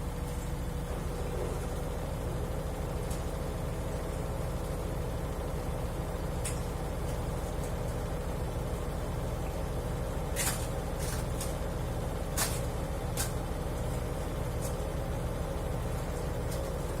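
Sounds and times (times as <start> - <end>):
washing machine spin rumble: 0.0 - 17.0.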